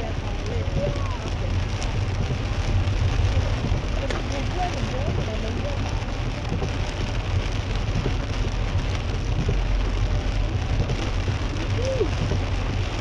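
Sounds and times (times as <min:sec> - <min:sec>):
heavy rain on car: 0:00.0 - 0:13.0
road and engine rumble: 0:00.0 - 0:13.0.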